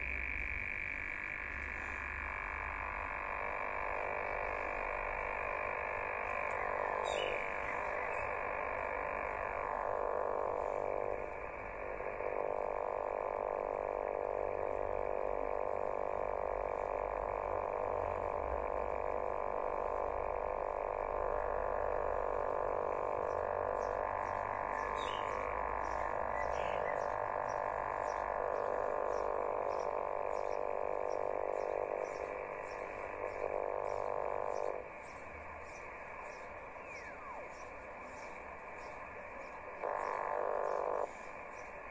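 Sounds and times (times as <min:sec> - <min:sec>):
radio buzzing interference noise: 0:00.0 - 0:41.9
steady radio tones: 0:01.1 - 0:41.9.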